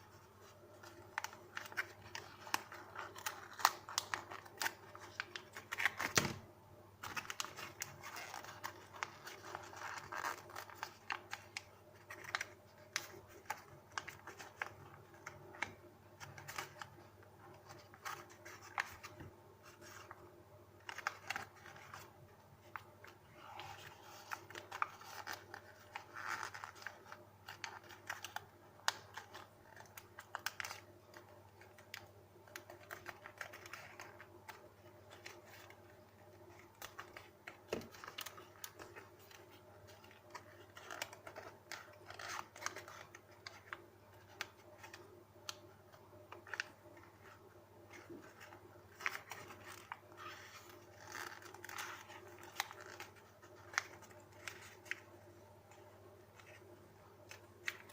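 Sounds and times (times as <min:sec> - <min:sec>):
paper rustling and crinkling: 0:00.0 - 0:06.4, 0:07.0 - 0:57.9.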